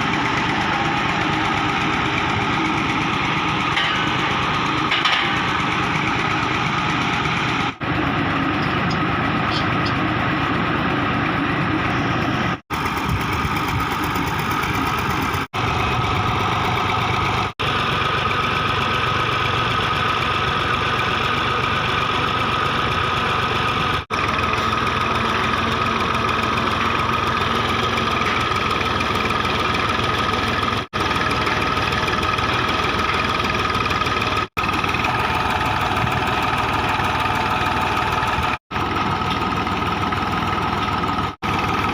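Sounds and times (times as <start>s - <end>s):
boring rig engine running: 0.0s - 41.9s.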